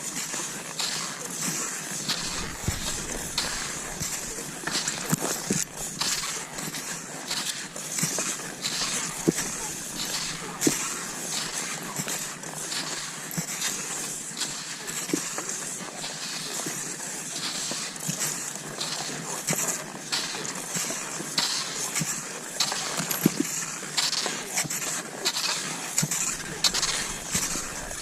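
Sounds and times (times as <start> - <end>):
skis swishing over snow: 0.0 - 28.0.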